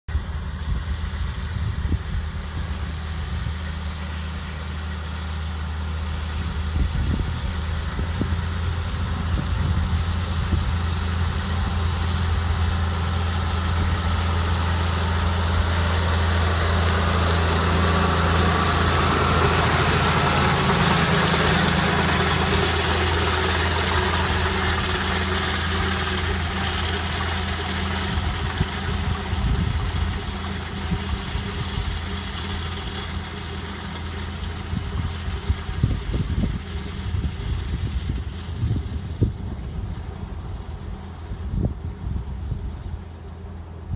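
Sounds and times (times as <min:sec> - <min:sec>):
tractor engine drone: 0:00.1 - 0:43.9.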